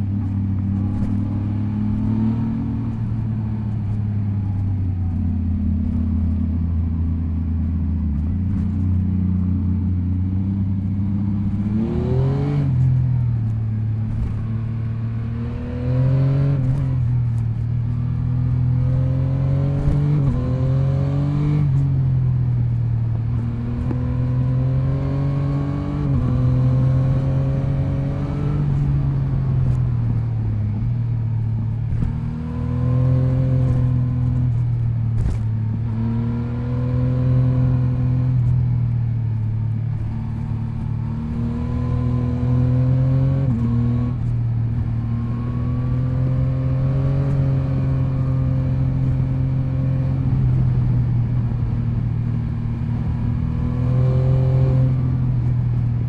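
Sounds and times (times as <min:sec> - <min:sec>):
motorcycle engine revving: 0:08.5 - 0:22.5, 0:23.3 - 0:38.6, 0:39.4 - 0:55.9.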